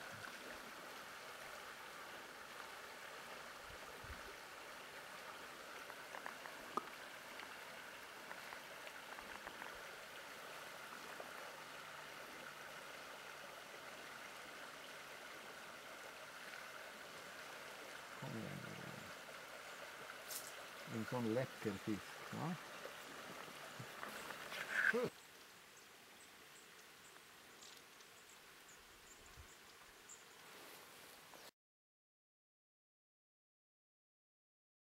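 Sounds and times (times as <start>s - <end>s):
river water flowing: 0.0s - 31.4s.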